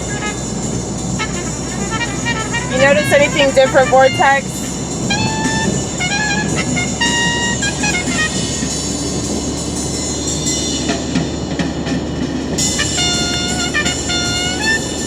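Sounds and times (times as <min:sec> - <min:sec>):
car rumbling in motion: 0:00.0 - 0:15.0
music with held notes: 0:00.0 - 0:15.0.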